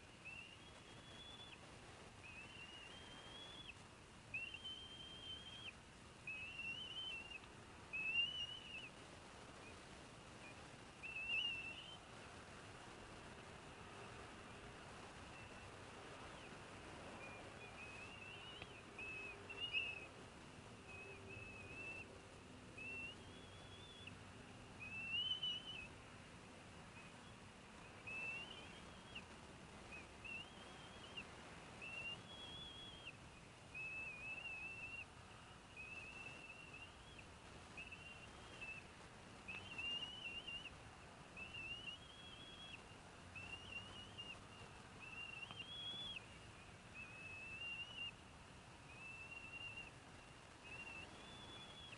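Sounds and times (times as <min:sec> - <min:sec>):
light background hiss: 0:00.0 - 0:51.9
eaglet chirping: 0:00.2 - 0:01.6, 0:02.2 - 0:09.0, 0:10.4 - 0:12.1, 0:15.2 - 0:20.1, 0:20.8 - 0:22.1, 0:22.7 - 0:24.2, 0:24.8 - 0:26.0, 0:26.9 - 0:38.9, 0:39.5 - 0:40.8, 0:41.4 - 0:48.2, 0:48.9 - 0:51.9.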